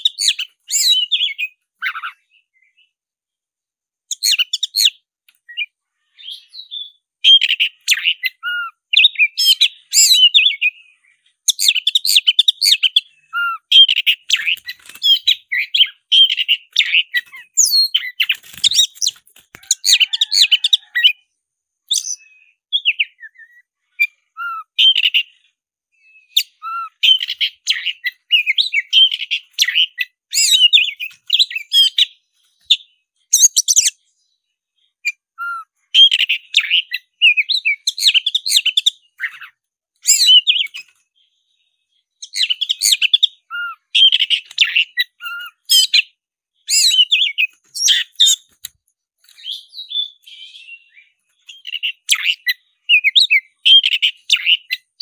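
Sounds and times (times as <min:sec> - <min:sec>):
bird singing high phrases: 0:00.0 - 0:55.0.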